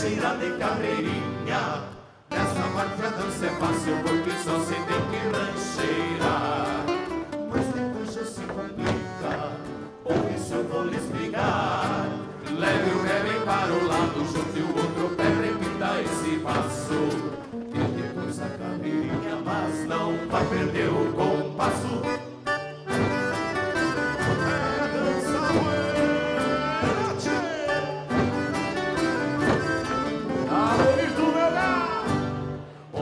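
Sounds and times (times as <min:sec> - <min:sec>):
instrumental accompaniment with beat: 0:00.0 - 0:32.8
folk song singing: 0:00.0 - 0:33.0.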